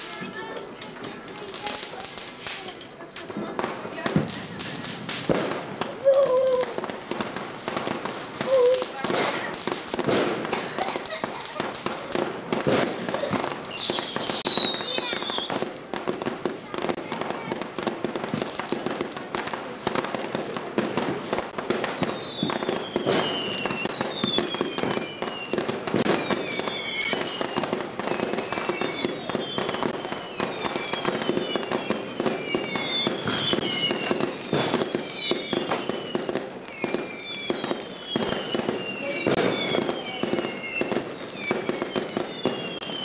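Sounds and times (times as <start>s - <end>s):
fireworks crackling and popping: 0.0s - 43.0s
whistling fireworks: 0.0s - 43.0s.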